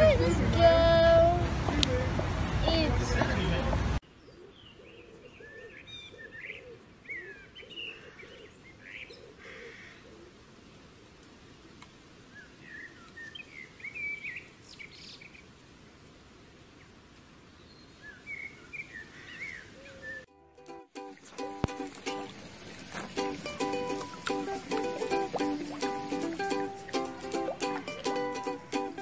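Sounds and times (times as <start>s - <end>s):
faint outdoor background noise: 0.0s - 29.0s.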